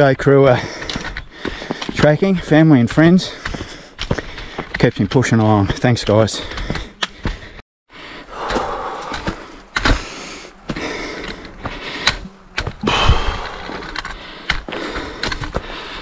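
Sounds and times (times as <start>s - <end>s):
footsteps on trail: 0.0s - 16.0s
runner breathing heavily: 0.0s - 16.0s.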